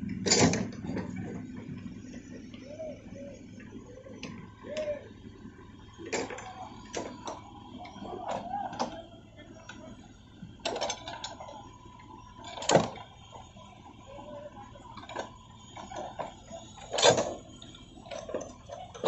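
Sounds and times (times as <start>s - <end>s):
backhoe engine humming: 0.0s - 19.0s.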